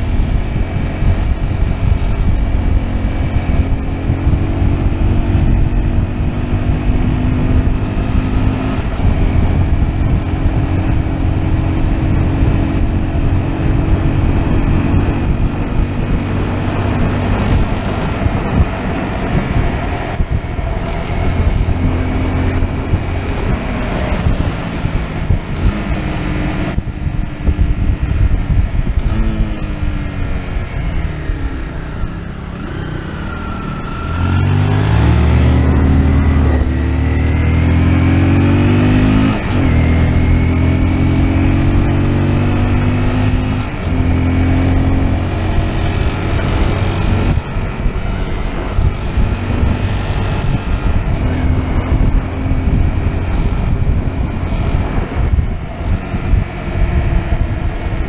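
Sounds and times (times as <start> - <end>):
motorcycle engine revving: 0.0 - 58.0
wind rumble on microphone: 0.0 - 58.0.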